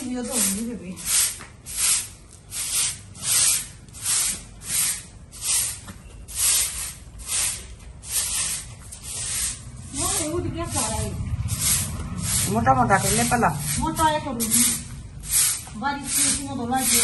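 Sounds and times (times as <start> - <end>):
broom sweeping wet concrete: 0.0 - 17.0.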